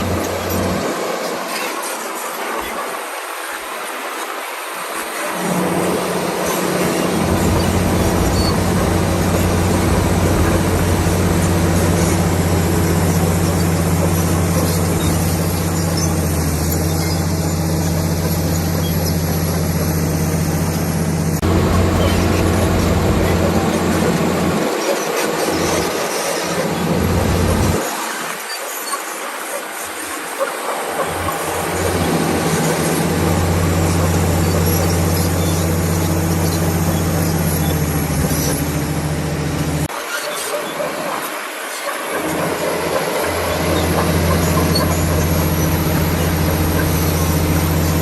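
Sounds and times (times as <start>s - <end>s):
bulldozer diesel engine running: 0.0s - 1.0s, 5.2s - 27.8s, 30.7s - 39.9s, 40.6s - 48.0s
steel tracks clattering: 0.0s - 48.0s.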